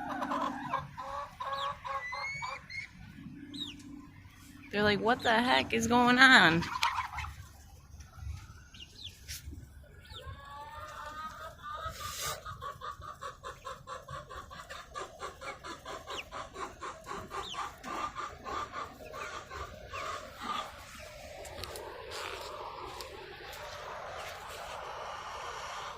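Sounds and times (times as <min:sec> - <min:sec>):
chickens clucking rapidly: 0:00.0 - 0:25.9.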